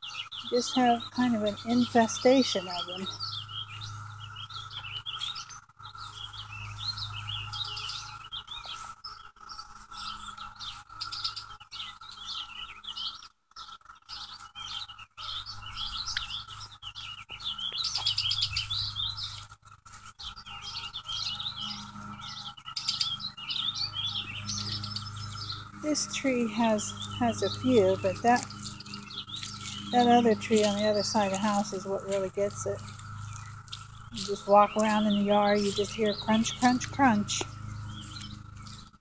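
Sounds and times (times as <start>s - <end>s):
cicadas droning: 0.0s - 39.0s
songbirds chirping: 0.0s - 39.0s.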